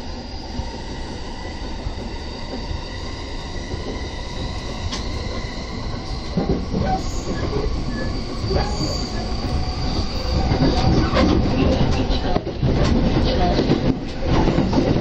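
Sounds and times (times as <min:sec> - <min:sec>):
train wheels rumbling: 0:00.0 - 0:15.0
train clatter: 0:01.8 - 0:15.0.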